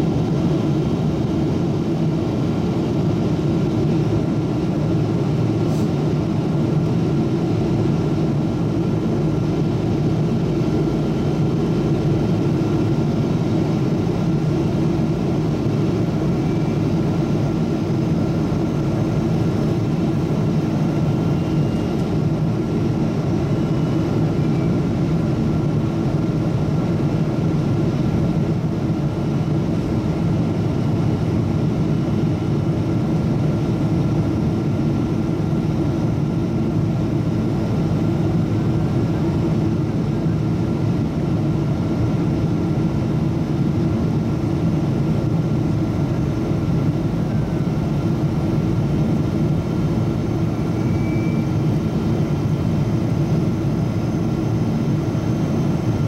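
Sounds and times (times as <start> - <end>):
jet engine hum: 0.0 - 56.0.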